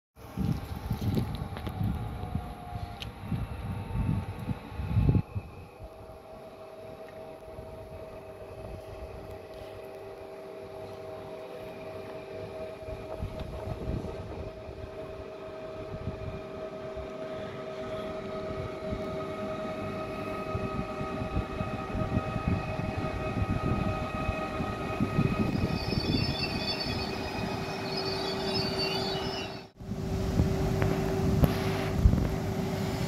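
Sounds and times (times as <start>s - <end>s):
train wheel rumble: 0.2s - 33.0s.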